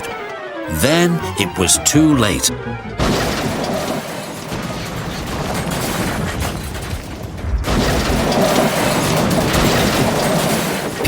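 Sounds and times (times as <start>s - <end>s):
railway trucks crashing: 0.0s - 11.0s.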